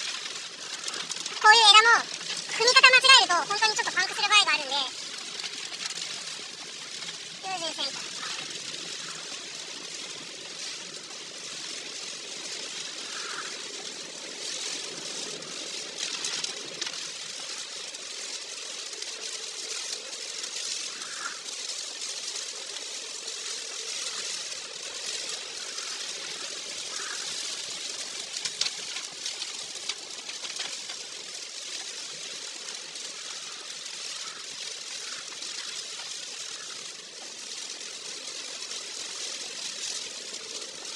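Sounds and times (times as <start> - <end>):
rain and tyre spray hiss: 0.0 - 40.9
sharp ticks: 0.0 - 40.9
splashing under tyres: 0.0 - 40.9.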